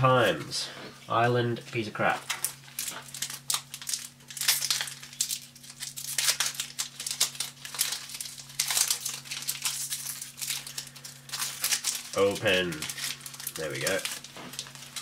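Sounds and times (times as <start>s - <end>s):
foil wrapper crinkling: 1.7s - 15.0s.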